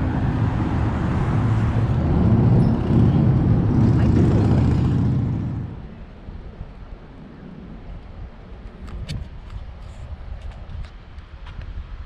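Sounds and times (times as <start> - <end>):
traffic engine rumble: 0.0 - 11.4
wind buffeting microphone: 0.0 - 12.0.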